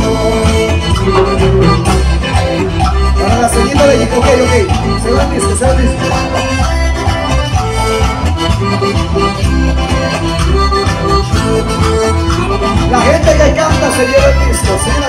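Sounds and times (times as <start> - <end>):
pulsing bass beat: 0.0 - 15.0
reedy held-note melody: 0.0 - 15.0.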